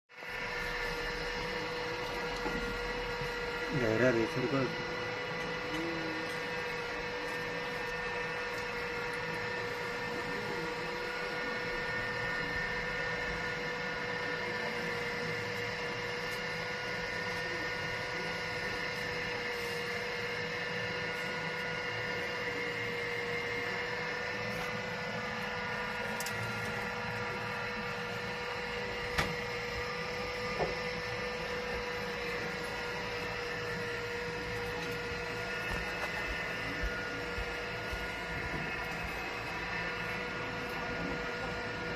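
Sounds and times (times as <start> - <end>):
mechanical motor hum: 0.2 - 41.9.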